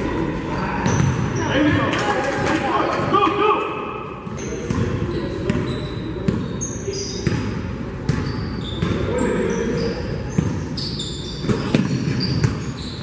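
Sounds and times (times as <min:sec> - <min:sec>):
sneakers squeaking: 0:00.0 - 0:03.2, 0:04.1 - 0:13.0.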